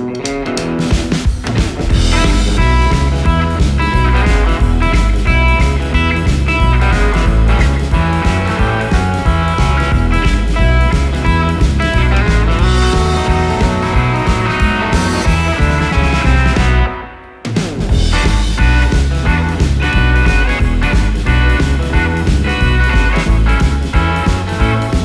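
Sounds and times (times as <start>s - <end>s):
rock music: 0.0s - 25.0s.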